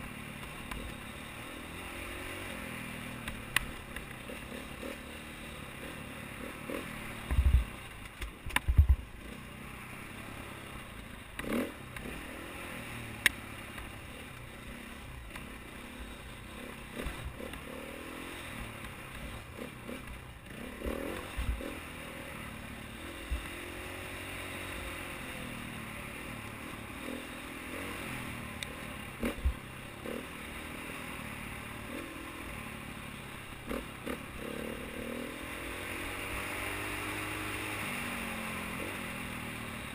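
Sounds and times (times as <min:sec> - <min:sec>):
dirt bike engine revving: 0:00.0 - 0:07.8, 0:09.2 - 0:39.9.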